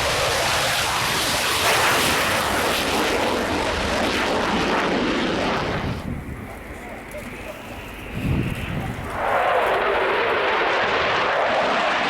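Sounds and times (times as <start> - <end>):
jet engines at full power: 0.0 - 12.0.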